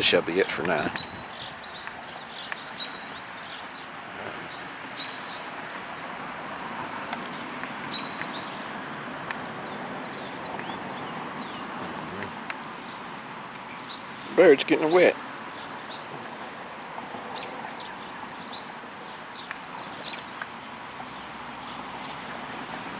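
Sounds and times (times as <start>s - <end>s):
birds chirping: 0.0s - 22.4s.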